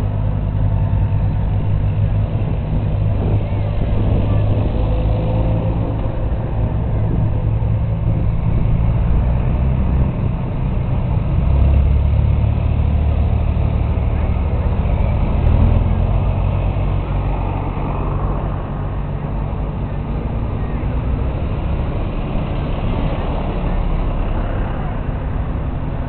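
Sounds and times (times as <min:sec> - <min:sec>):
tractor engines droning: 0:00.0 - 0:26.0.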